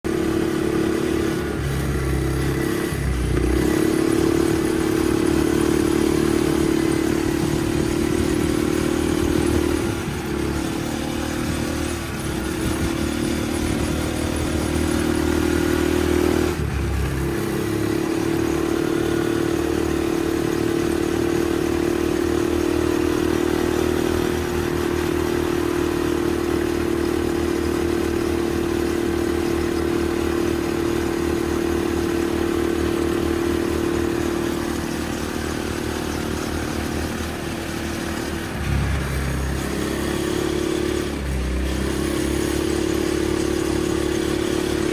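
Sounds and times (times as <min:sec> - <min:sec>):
buggy engine droning: 0:00.0 - 0:44.9.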